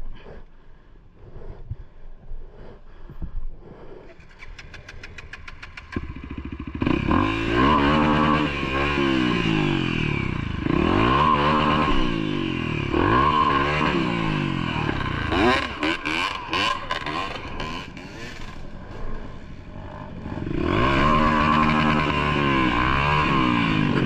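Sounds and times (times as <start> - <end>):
motorcycle engine revving: 4.0 - 24.0.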